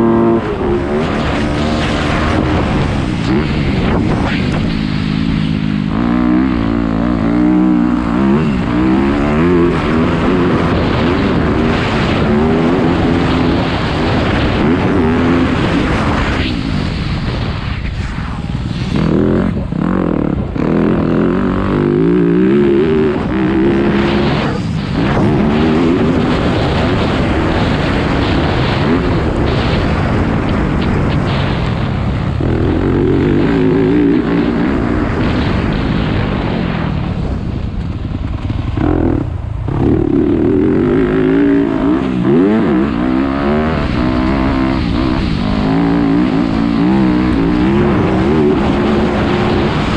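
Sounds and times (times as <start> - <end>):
dirt bike engine revving: 0.0 - 17.5, 18.5 - 37.4, 38.1 - 49.9
wind noise on microphone: 0.0 - 49.9.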